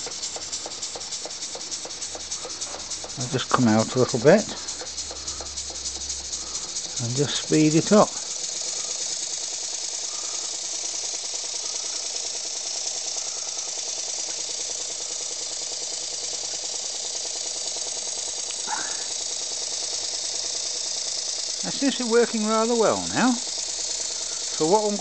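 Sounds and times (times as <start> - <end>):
air leaking hiss: 0.0 - 25.0
model engine exhaust beat: 0.0 - 25.0.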